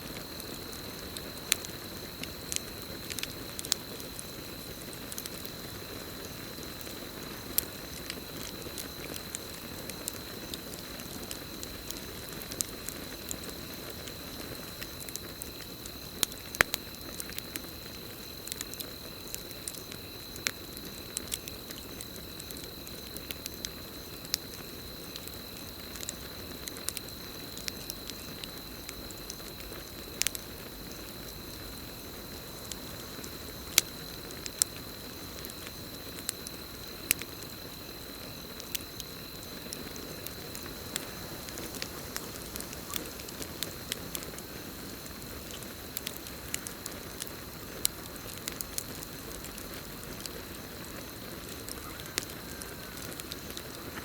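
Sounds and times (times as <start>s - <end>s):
campfire crackling: 0.0s - 54.0s
cricket trill: 0.0s - 54.0s.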